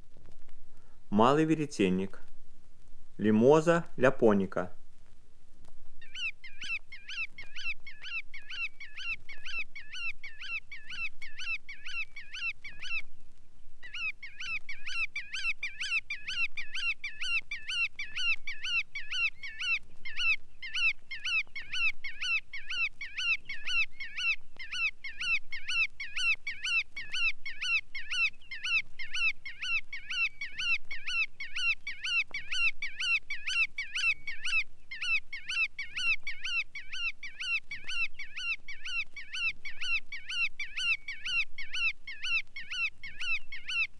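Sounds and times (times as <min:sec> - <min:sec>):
bird calling rapidly: 0:06.0 - 0:13.2, 0:13.8 - 0:43.9.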